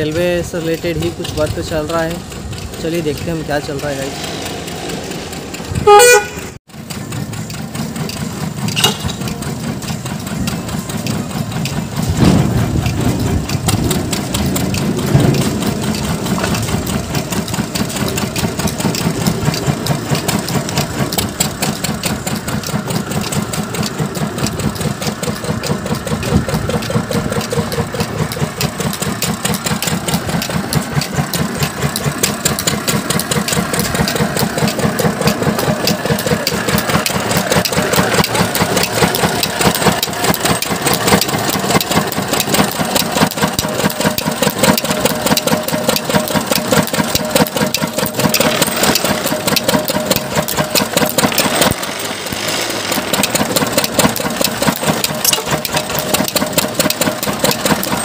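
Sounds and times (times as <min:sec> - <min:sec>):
block-making machinery chugging: 0:00.0 - 0:58.0.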